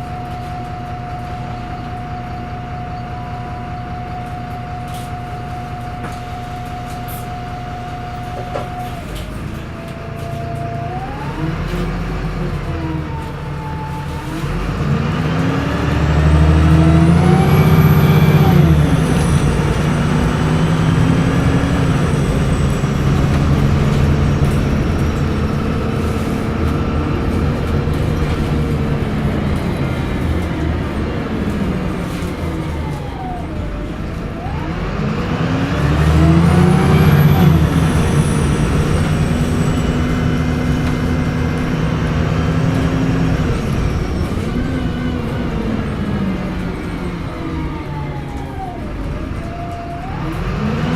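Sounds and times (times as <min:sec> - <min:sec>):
bus diesel engine pulling away: 0:00.0 - 0:50.9
turbocharger whine: 0:00.0 - 0:50.9.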